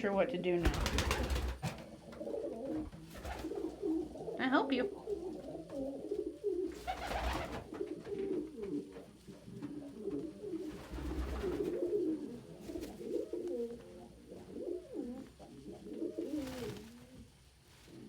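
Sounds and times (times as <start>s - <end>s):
pigeons cooing: 0.7s - 18.0s.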